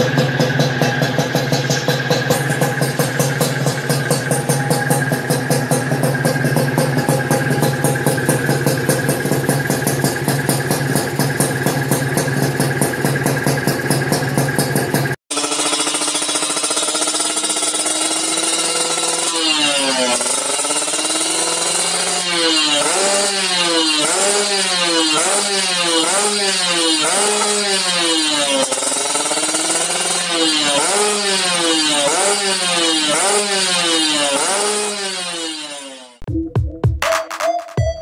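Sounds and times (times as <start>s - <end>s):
motorcycle engine revving: 0.0s - 36.3s.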